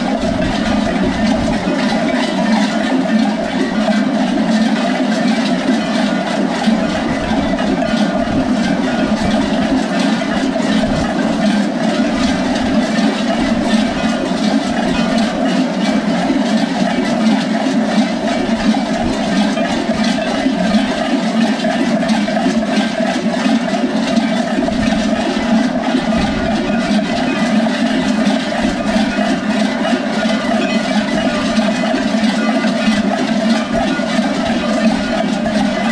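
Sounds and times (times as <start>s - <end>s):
large goat bells clanging: 0.0s - 35.9s.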